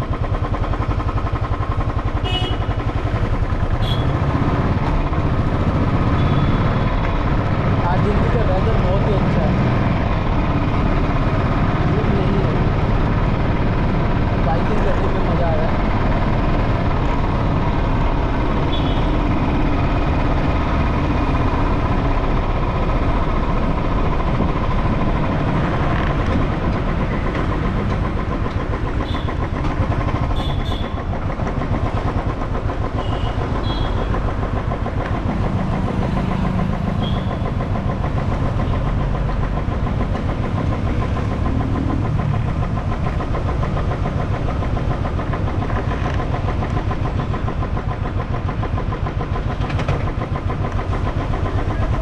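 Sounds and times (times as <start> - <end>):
motorcycle engine running: 0.0 - 52.0
road and wind noise: 0.0 - 52.0.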